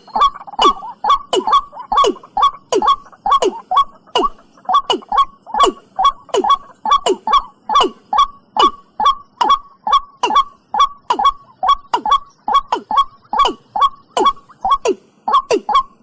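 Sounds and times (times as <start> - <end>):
bird calls dropping in pitch: 0.0 - 16.0.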